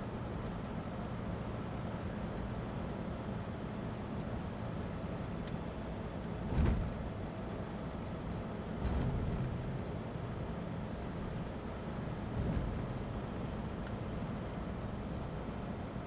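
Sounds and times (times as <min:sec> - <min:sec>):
diesel engine and tyre rumble: 0:00.0 - 0:16.0.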